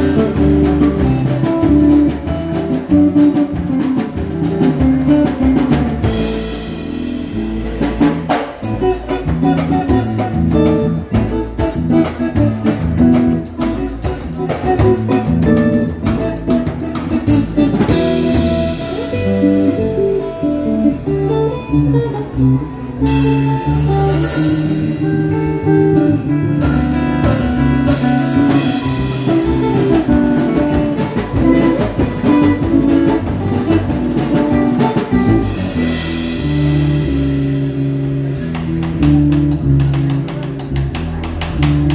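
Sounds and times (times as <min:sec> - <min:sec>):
drum kit and cymbals: 0:00.0 - 0:41.9
jazz guitar: 0:00.0 - 0:41.9.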